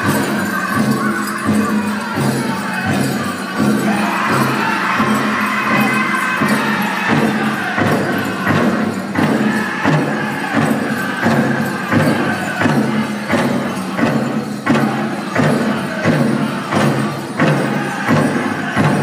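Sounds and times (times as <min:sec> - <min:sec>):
group singing in high voices: 0:00.0 - 0:19.0
jingling bells: 0:00.0 - 0:19.0
large drum steady beat: 0:00.0 - 0:19.0.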